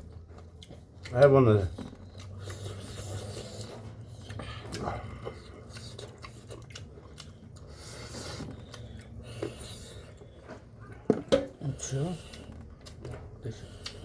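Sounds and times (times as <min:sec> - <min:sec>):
person chewing and biting: 0:00.0 - 0:14.0.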